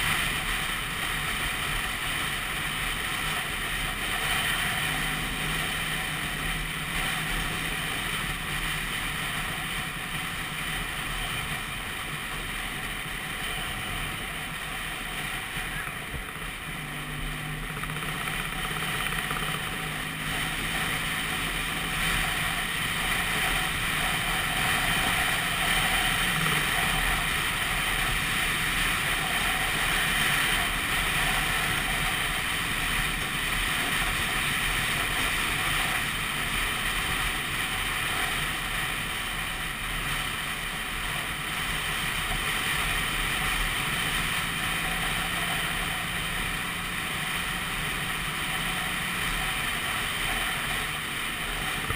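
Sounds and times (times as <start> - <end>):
scooter engine running: 0.0 - 51.9.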